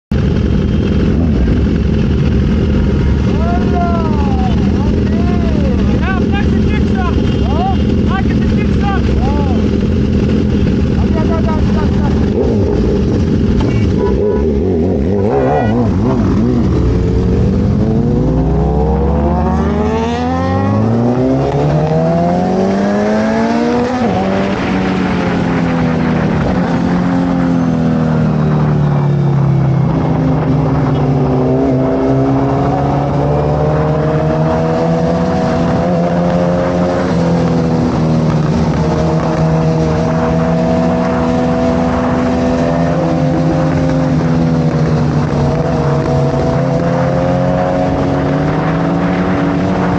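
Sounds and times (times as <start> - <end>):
motorcycle engine accelerating hard: 0.1 - 49.9.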